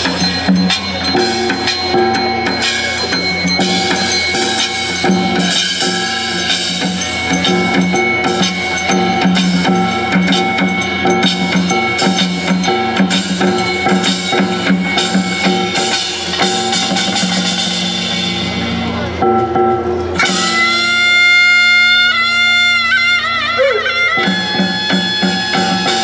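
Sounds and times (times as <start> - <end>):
rapid drumming and percussion: 0.0 - 26.0
sustained instrument tones: 0.0 - 26.0.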